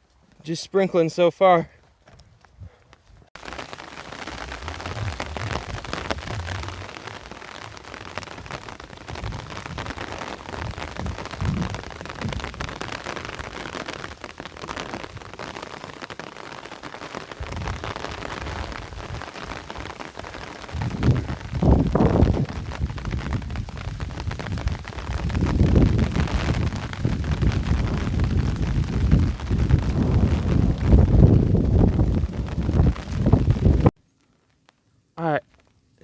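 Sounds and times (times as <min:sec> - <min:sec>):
light rain pattering: 0:00.0 - 0:36.0
thunder rumbling: 0:03.4 - 0:33.9.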